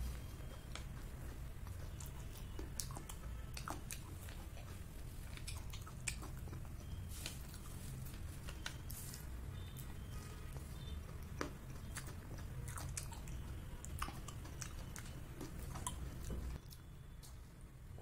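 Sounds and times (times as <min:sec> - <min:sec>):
person chewing soft bun: 0:00.0 - 0:17.4.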